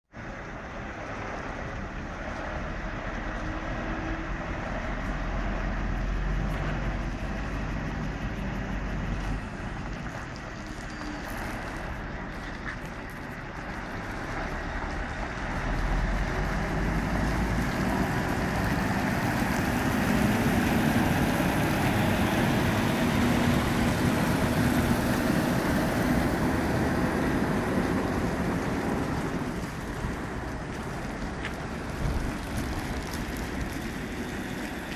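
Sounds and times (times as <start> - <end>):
diesel truck engine: 0.1 - 34.9.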